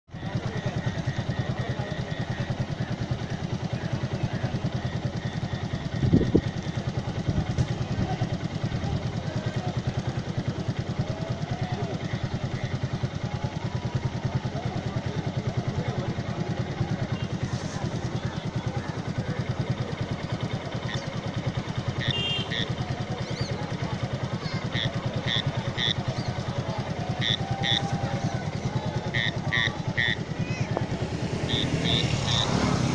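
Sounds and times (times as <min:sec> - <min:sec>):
engine idling: 0:00.1 - 0:32.9.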